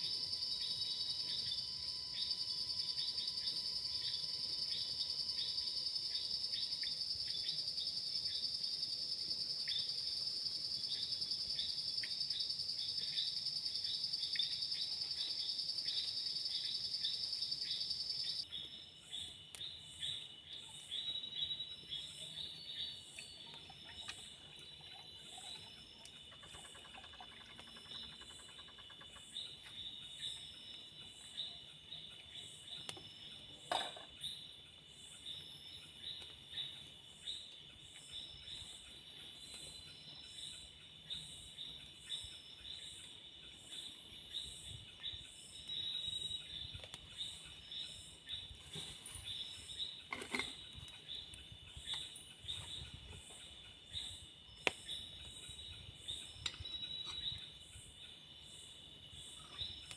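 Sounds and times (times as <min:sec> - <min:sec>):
high-pitched insect drone with chirps: 0:00.0 - 0:59.9.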